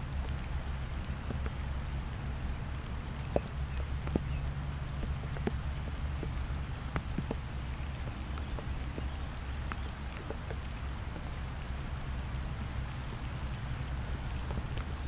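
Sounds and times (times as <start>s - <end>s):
rain falling: 0.0s - 15.0s
drops ticking near microphone: 2.7s - 15.0s.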